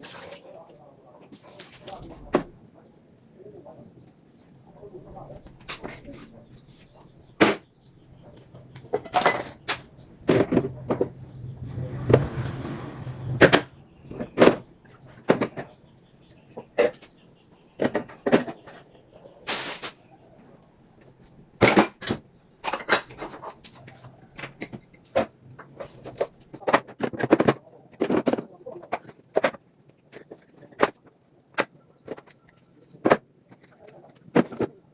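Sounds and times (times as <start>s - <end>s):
household items clattering: 5.0s - 7.6s, 8.2s - 15.8s, 16.4s - 34.9s.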